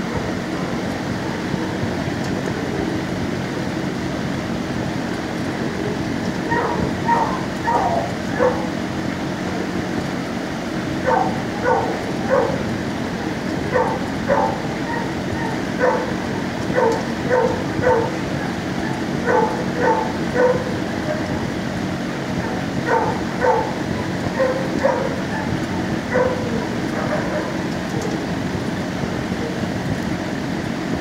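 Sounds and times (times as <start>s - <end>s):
dogs barking: 0.0s - 2.1s, 6.3s - 29.8s
steady low hum: 0.0s - 31.0s.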